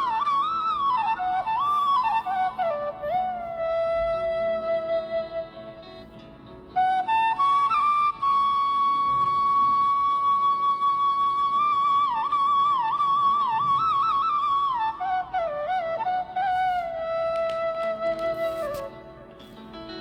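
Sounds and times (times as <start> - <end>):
solo flute melody: 0.0 - 20.0.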